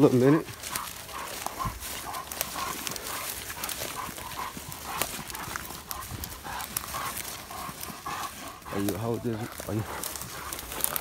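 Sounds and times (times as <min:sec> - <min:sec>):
dog panting hard: 0:00.0 - 0:11.0
footsteps through dry grass: 0:00.0 - 0:11.0.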